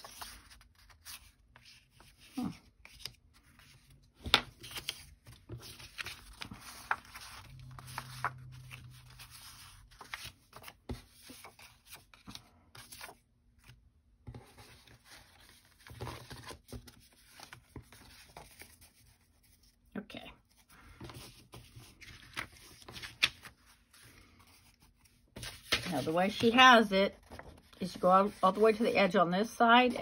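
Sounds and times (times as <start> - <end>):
paper rustling and sliding: 0.0 - 19.6, 20.6 - 29.0.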